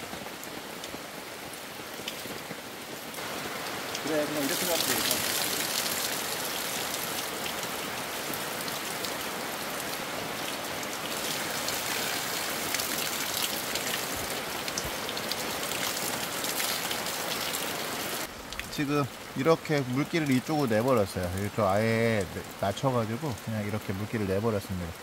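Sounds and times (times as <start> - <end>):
rain falling on a tarp: 0.0 - 25.0.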